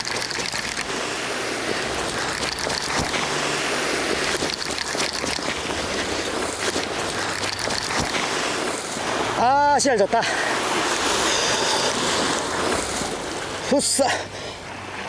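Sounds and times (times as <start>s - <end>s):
sea waves splashing over rocks: 0.0s - 15.0s.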